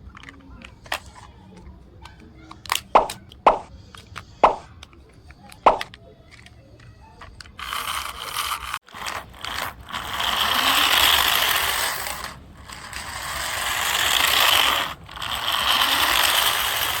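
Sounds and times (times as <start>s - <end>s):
toy car electric motor whirring: 0.0s - 17.0s.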